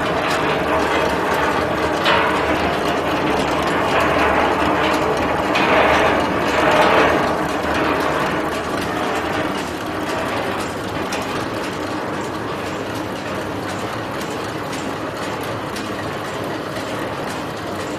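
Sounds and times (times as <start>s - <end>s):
machine rattling with small clicks: 0.0s - 17.9s.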